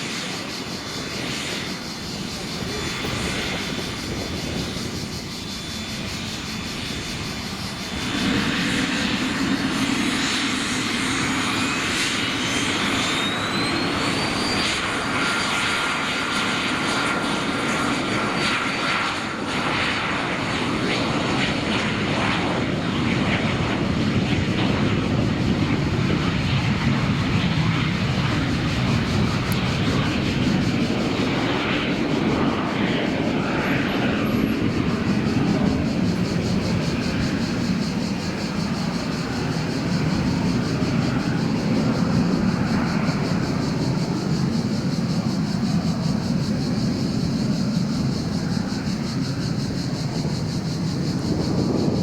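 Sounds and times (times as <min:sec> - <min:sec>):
jet engine roar: 0:00.0 - 0:52.0
jet engines whining: 0:00.0 - 0:52.0.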